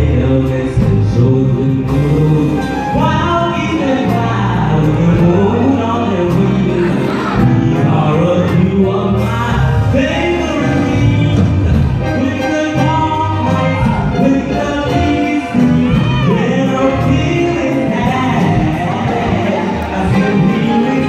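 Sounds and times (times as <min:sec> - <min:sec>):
live band with keyboard and drums: 0:00.0 - 0:21.0
man singing into microphone: 0:00.0 - 0:21.0.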